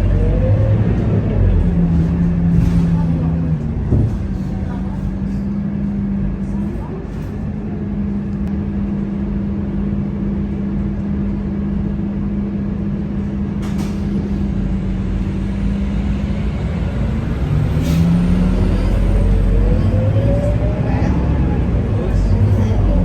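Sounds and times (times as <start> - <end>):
bus diesel engine droning: 0.0 - 23.0.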